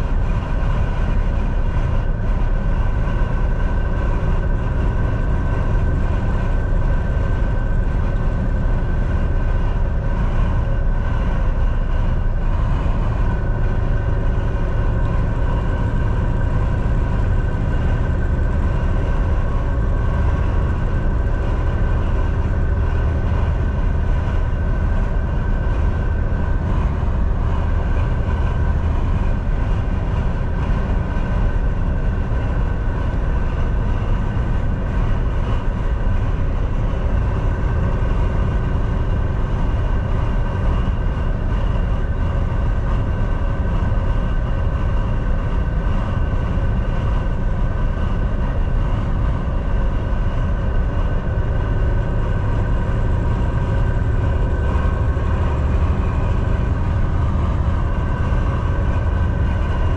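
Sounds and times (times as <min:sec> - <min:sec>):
truck diesel engine drone: 0:00.0 - 0:59.9.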